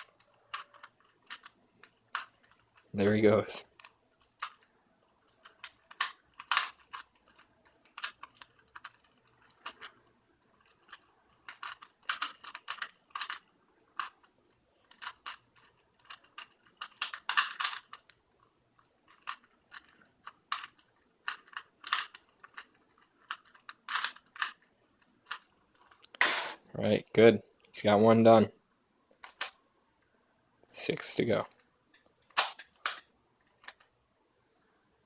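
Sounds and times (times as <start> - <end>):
puzzle cube plastic clicking: 0.0 - 2.9, 3.6 - 26.6, 29.1 - 29.6, 31.5 - 33.9.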